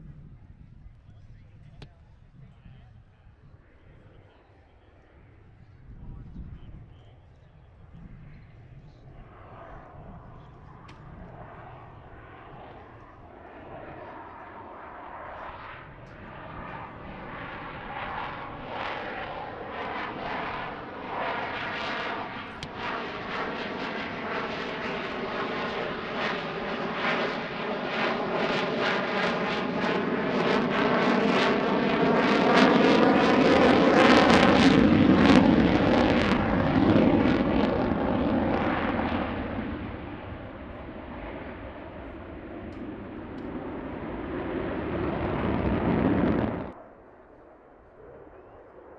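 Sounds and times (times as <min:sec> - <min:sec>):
airplane engine drone: 0:00.0 - 0:48.9.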